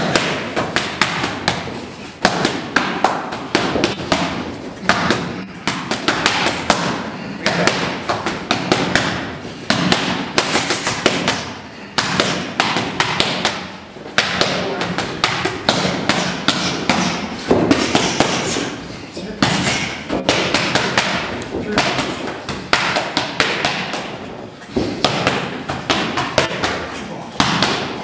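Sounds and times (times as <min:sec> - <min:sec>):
boxing gloves slapping mitts: 0:00.0 - 0:18.8, 0:19.4 - 0:28.0.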